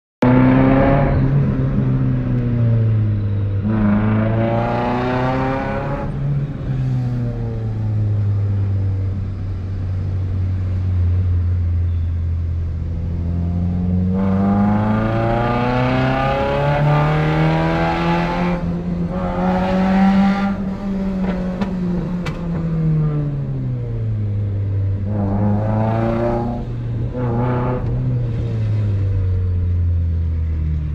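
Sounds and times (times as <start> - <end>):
car engine revving: 0.2 - 10.9, 12.6 - 30.6.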